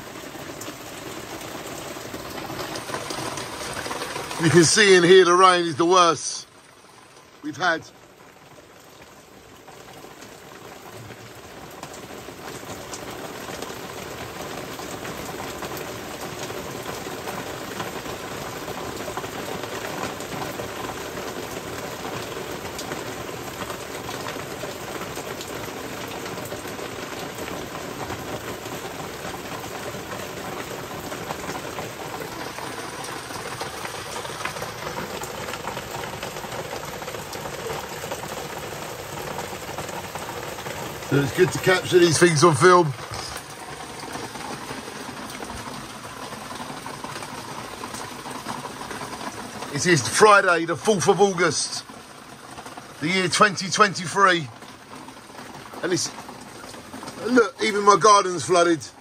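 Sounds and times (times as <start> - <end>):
torrential rain on road: 0.0 - 59.0.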